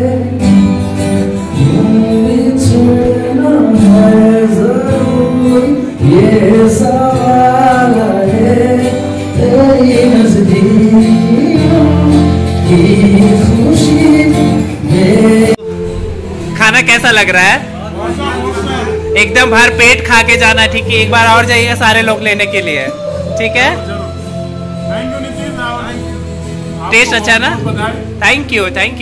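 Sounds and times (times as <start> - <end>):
man singing: 0.0 - 17.0, 18.1 - 28.2
strummed acoustic guitar: 0.0 - 29.0.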